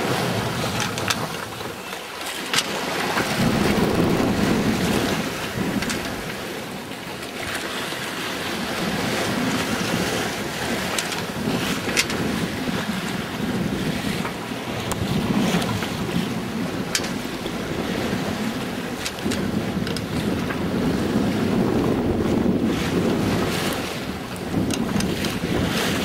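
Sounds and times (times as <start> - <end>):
sea water rushing along hull: 0.0 - 26.0
wind buffeting microphone: 2.7 - 26.0.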